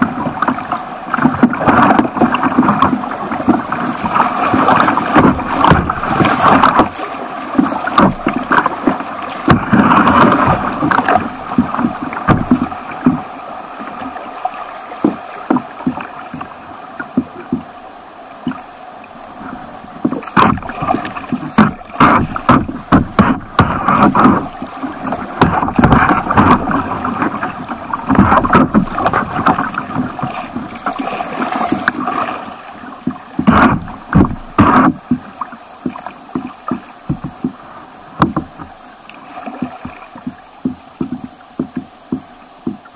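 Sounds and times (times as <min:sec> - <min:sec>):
stream water rushing: 0:00.0 - 0:42.9
water slapping against hull: 0:00.0 - 0:42.9.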